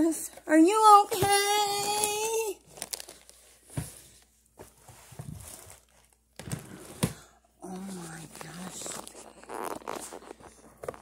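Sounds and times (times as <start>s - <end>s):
fabric rustling: 1.3s - 7.0s, 7.6s - 11.0s.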